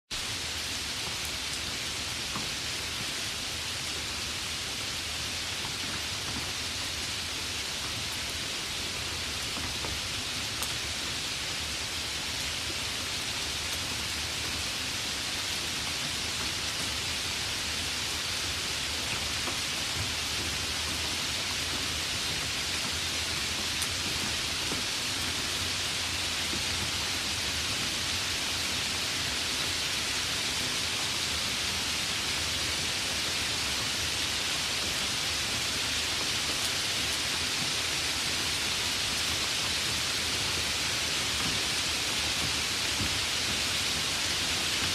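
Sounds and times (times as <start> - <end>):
heavy rain: 0.1 - 44.9.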